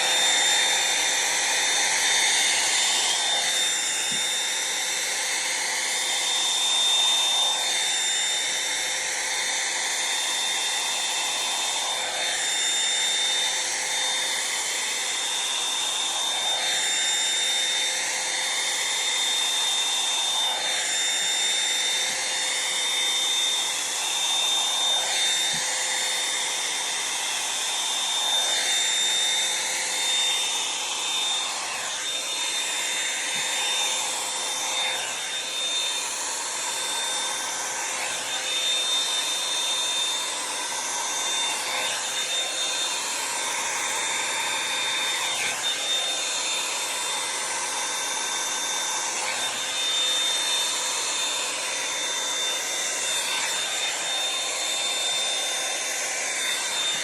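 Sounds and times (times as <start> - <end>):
hot-air brush dryer whining: 0.0 - 57.0.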